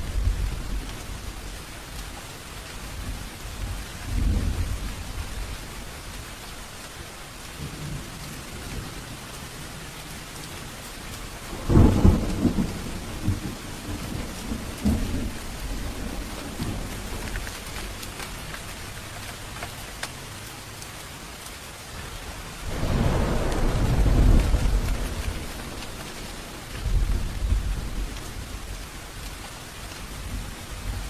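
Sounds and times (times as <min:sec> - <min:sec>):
thunder rumbling: 0:00.0 - 0:02.1, 0:02.9 - 0:06.2, 0:07.6 - 0:19.2, 0:22.6 - 0:31.0
heavy rain: 0:00.0 - 0:31.0.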